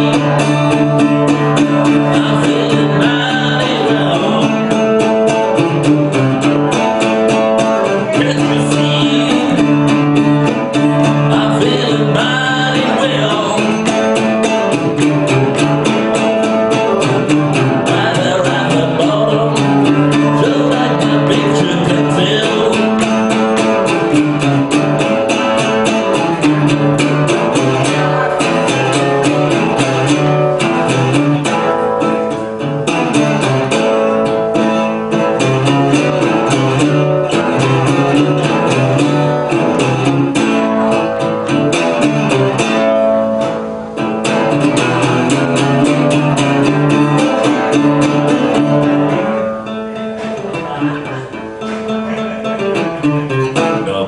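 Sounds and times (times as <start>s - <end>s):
solo blues guitar: 0.0s - 54.0s.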